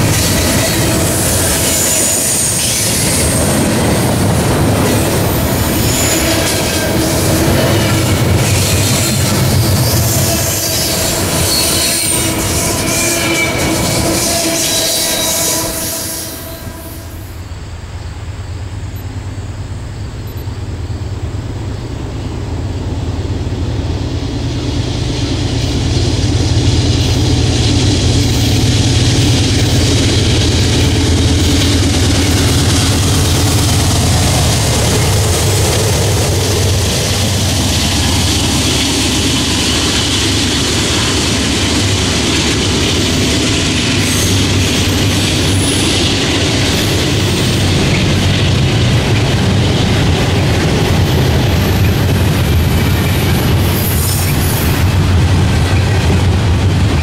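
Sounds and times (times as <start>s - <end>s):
diesel locomotive engine hum: 0.0s - 57.0s
train wheels on rails: 0.0s - 57.0s.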